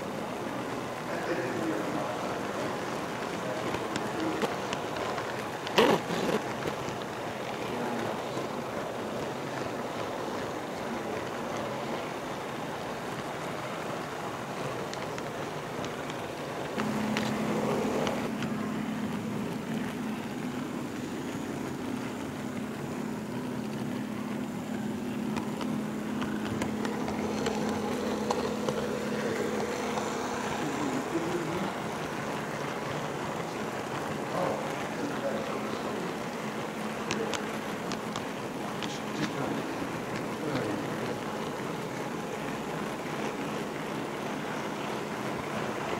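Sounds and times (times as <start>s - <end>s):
model train car rolling on track: 0.0s - 45.9s
steady low hum: 0.0s - 45.9s.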